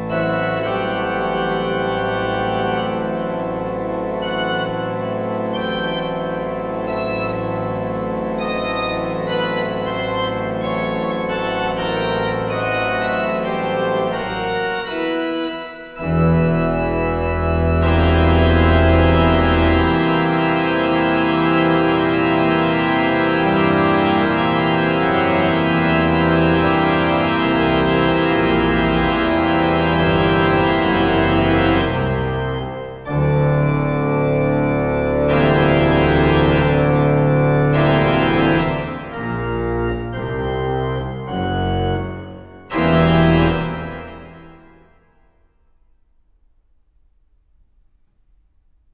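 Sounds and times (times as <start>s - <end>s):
pipe organ playing: 0.0s - 44.7s.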